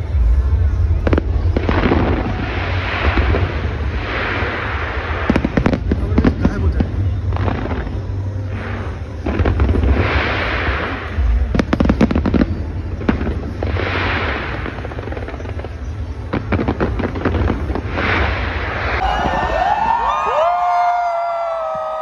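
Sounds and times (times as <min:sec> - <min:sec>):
fireworks booming: 0:00.0 - 0:22.0
fireworks crackling: 0:00.0 - 0:22.0
fireworks hissing: 0:00.0 - 0:22.0.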